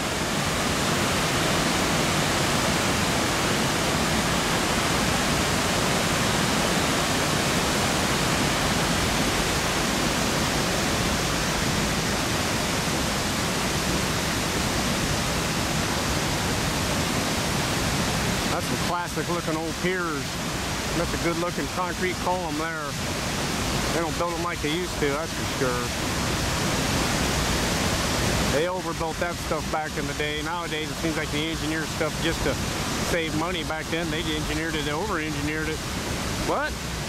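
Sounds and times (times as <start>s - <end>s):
water rushing over spillway: 0.0s - 37.0s.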